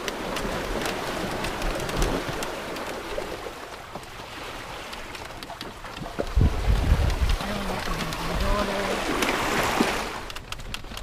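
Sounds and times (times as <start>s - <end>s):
rushing and splashing water: 0.0s - 11.0s
sharp ticks and drips: 0.0s - 11.0s.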